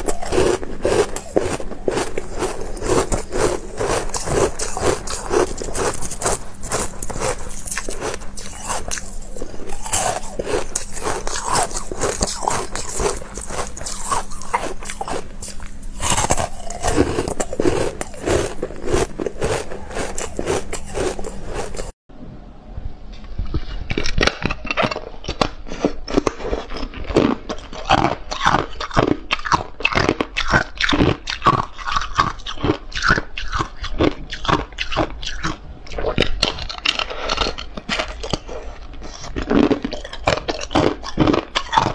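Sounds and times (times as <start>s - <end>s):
ice crunching between teeth: 0.0s - 22.0s, 23.9s - 41.9s.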